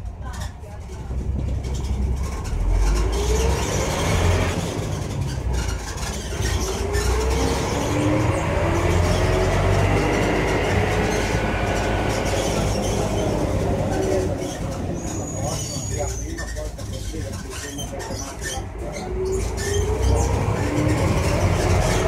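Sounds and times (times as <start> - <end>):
bus engine rumbling: 0.0 - 22.0
rising drivetrain whine: 1.5 - 22.0.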